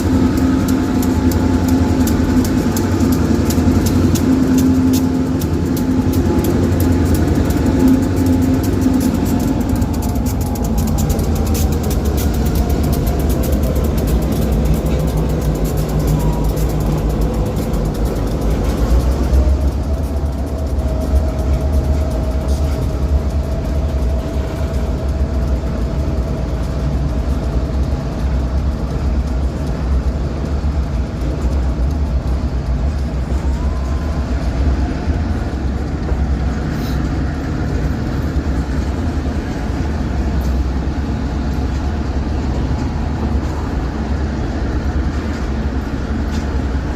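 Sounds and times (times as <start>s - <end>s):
diesel locomotive engine running: 0.0s - 46.9s
rising whine: 0.0s - 46.9s.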